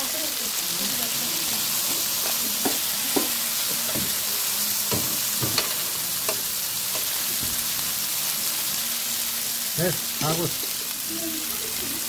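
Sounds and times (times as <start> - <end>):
meat sizzling on grill: 0.0 - 12.0.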